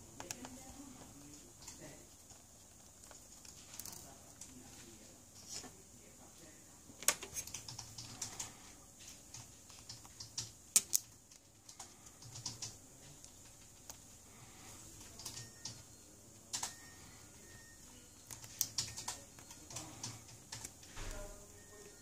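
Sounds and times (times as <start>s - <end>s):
fingers clicking and tapping phone parts: 0.0s - 4.6s, 7.0s - 14.2s, 15.0s - 22.0s.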